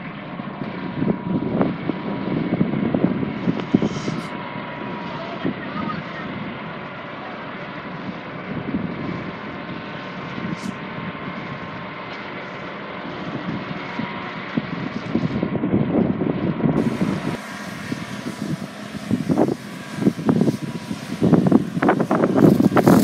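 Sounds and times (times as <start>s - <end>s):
engine and water pump droning: 0.0s - 23.0s
wind rumbling on microphone: 0.0s - 23.0s.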